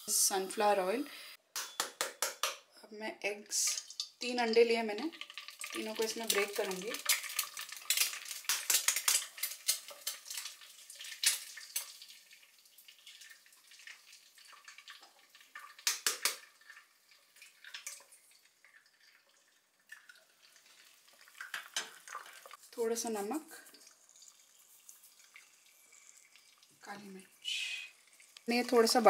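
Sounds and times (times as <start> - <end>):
eggs sizzling in oil: 0.0 - 2.7, 3.3 - 29.0.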